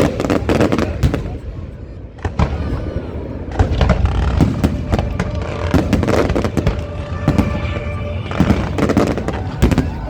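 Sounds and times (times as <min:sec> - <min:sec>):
constant low rumble: 0:00.0 - 0:10.0
fireworks bangs and booms: 0:00.0 - 0:10.0.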